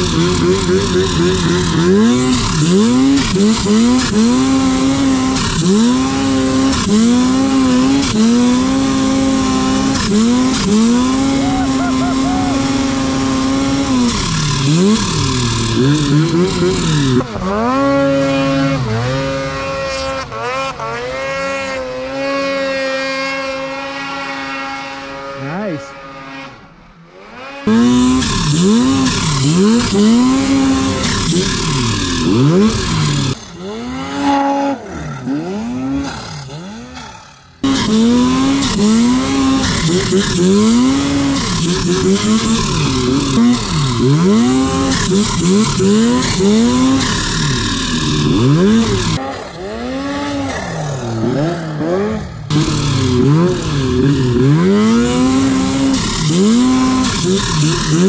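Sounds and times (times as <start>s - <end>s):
snowmobile engines revving: 0.0s - 58.0s.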